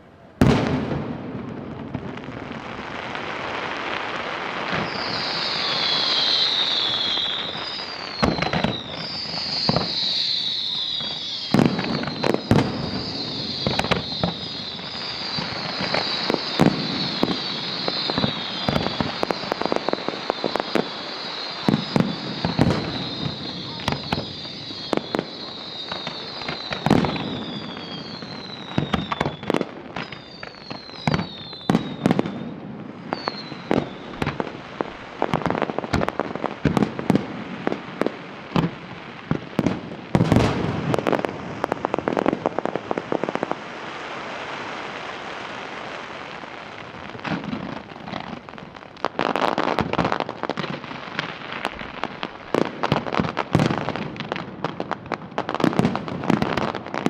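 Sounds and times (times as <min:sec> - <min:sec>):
firework crackling: 0:00.0 - 0:57.0
fireworks bangs and pops: 0:00.0 - 0:57.0
falling firework whistles: 0:00.2 - 0:57.0.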